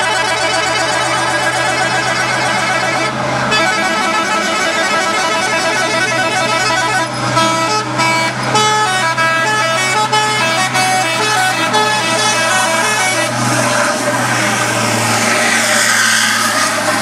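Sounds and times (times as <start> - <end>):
multi-tone air horn tune: 0.0 - 17.0
truck engine hum: 0.0 - 17.0.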